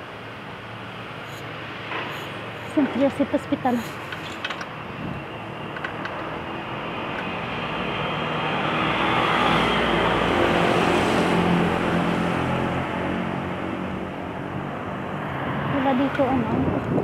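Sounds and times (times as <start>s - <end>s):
street traffic: 0.0s - 17.0s
vehicle passing close by: 1.1s - 17.0s.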